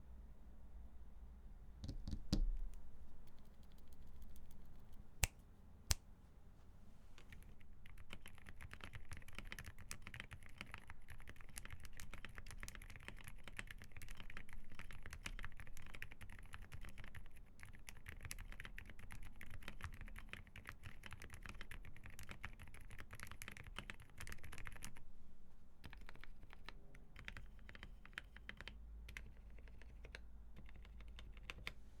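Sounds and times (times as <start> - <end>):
quiet keyboard keystrokes: 1.8 - 5.0, 7.2 - 25.0, 25.8 - 31.8
sharp keyboard clicks: 1.8 - 5.0, 7.3 - 25.0, 25.8 - 31.8.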